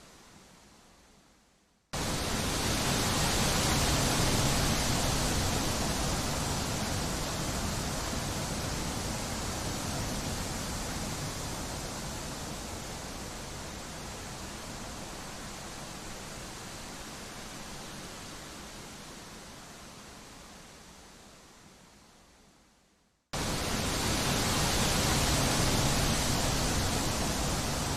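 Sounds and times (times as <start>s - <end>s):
steady wind hiss: 0.0s - 27.9s.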